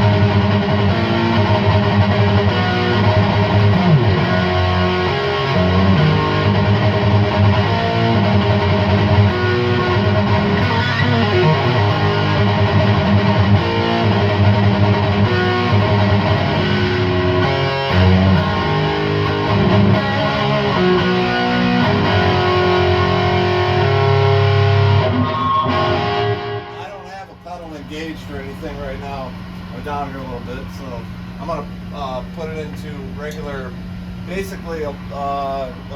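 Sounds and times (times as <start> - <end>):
distorted electric guitar: 0.0 - 32.4.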